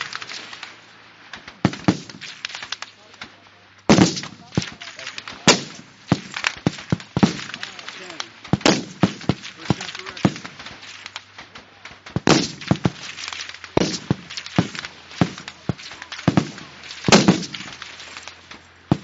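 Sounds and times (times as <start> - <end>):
rifle shots with echo: 1.4 - 3.2, 3.9 - 19.0.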